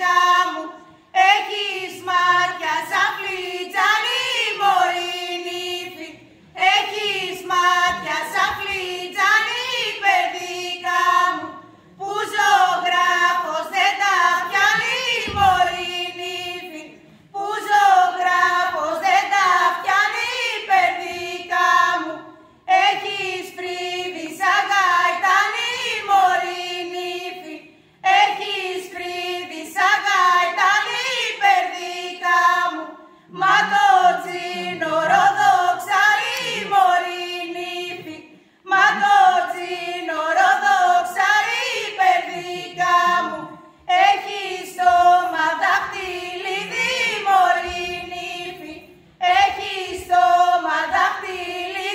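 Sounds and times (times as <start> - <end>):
women singing unaccompanied: 0.0 - 51.9.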